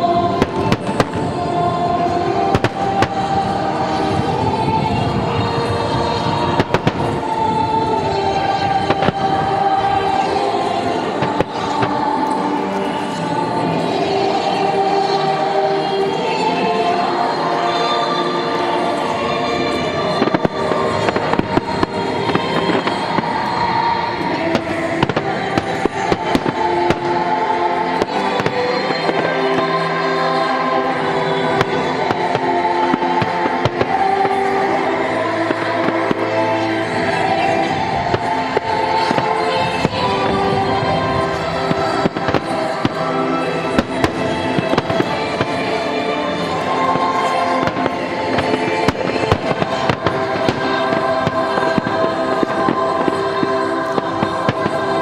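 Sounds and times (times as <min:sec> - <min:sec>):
fireworks bangs and crackles: 0:00.0 - 0:55.0
music with long held notes: 0:00.0 - 0:55.0.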